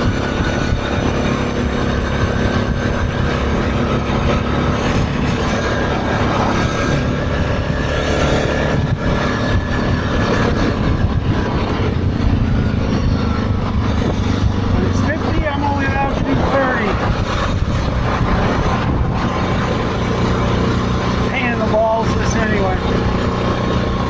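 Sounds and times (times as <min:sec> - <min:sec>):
atv engine running: 0:00.0 - 0:24.0
continuous rushing noise: 0:00.0 - 0:24.0.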